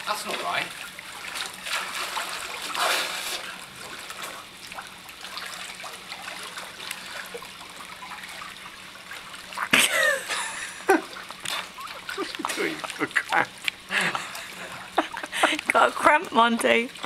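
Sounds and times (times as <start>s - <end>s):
water splashing from swimming: 0.0s - 17.0s.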